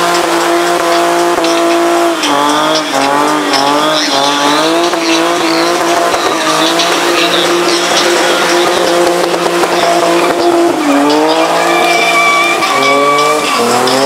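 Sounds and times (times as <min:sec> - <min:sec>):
car engine revving high: 0:00.0 - 0:14.0
tyres squealing: 0:00.0 - 0:14.0.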